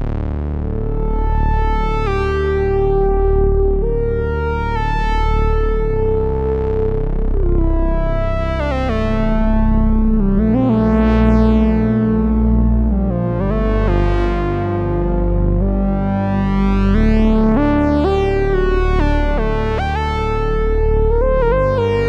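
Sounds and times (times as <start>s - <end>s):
low sustained synthesizer bass: 0.0s - 22.0s.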